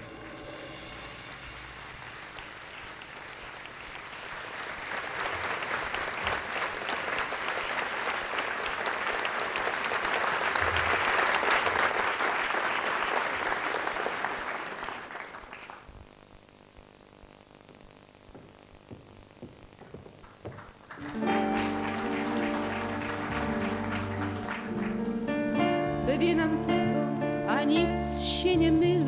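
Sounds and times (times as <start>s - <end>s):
audience applauding: 0.0s - 16.1s, 18.9s - 26.2s.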